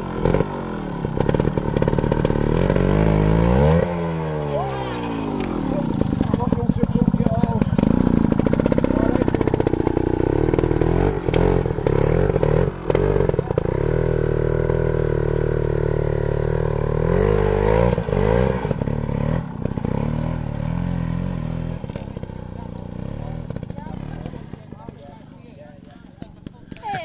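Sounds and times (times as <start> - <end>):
sidecar motorcycle engine revving: 0.0 - 27.0.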